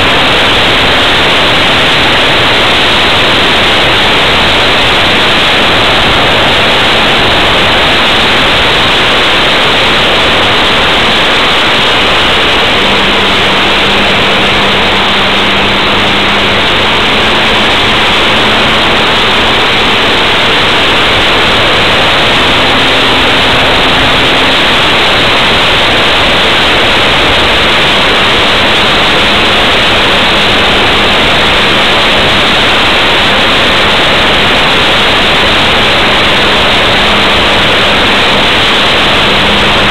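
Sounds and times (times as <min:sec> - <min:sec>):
wind and propeller rush: 0:00.0 - 0:39.9.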